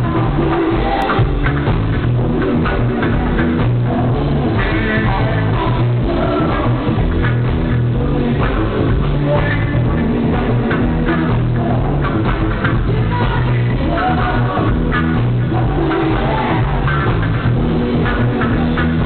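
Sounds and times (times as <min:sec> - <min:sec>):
woman singing: 0:00.0 - 0:01.7, 0:02.4 - 0:19.0
live funk rock band: 0:00.0 - 0:19.0.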